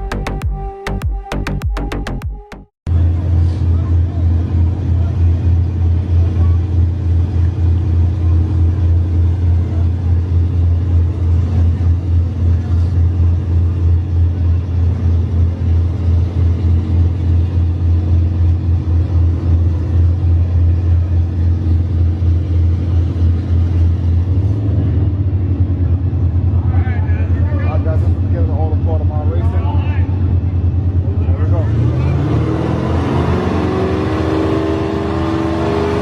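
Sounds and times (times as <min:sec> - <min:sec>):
car engine idling: 0:00.0 - 0:31.7.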